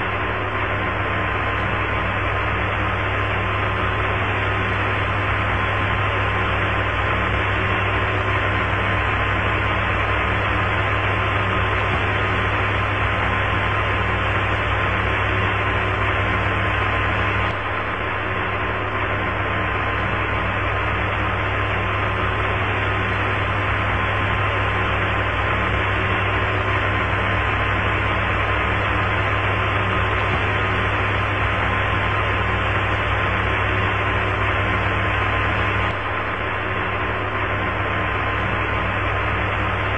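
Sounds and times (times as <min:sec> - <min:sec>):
faint constant tone: 0:00.0 - 0:39.9
low hum: 0:00.0 - 0:39.9
radio static hiss: 0:00.0 - 0:39.9.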